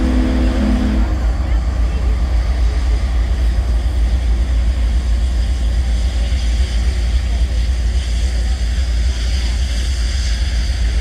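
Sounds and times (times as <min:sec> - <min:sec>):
diesel locomotive rumbling: 0:00.0 - 0:11.0
train wheels on track: 0:00.0 - 0:11.0.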